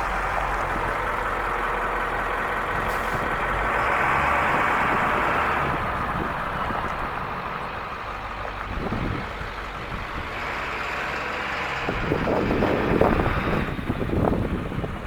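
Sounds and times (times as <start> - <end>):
diesel bus engine running: 0.0 - 15.0.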